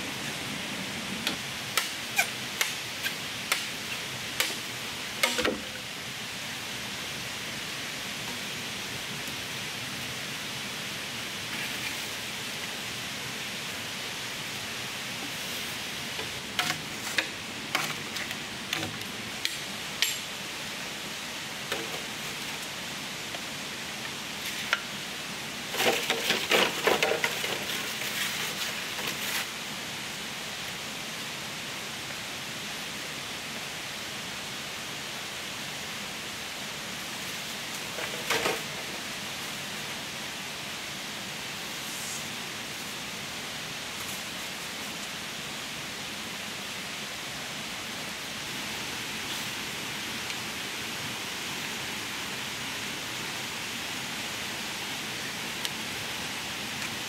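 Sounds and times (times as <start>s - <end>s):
steady rain-like hiss: 0.0s - 57.0s.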